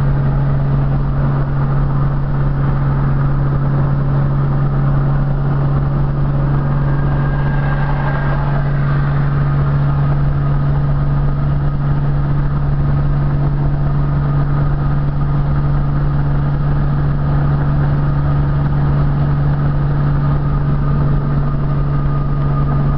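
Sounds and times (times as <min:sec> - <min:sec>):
pickup engine drone: 0:00.0 - 0:22.9
road noise: 0:00.0 - 0:22.9.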